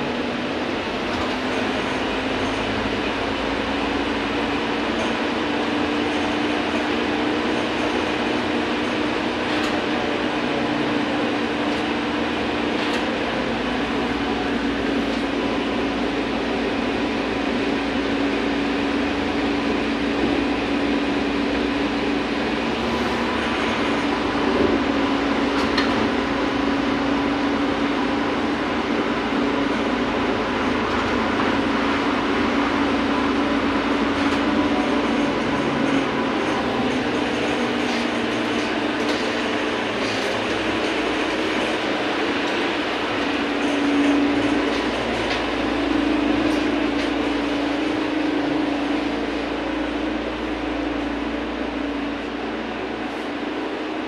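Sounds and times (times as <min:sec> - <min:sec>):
trolleybus motor hum: 0:00.0 - 0:54.0
road and body rattle: 0:00.8 - 0:50.3.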